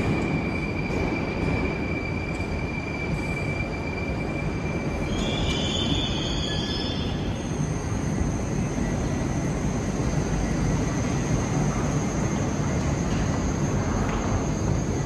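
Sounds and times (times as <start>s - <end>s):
train rumbling: 0.0s - 15.0s
train wheels squealing: 0.0s - 15.0s.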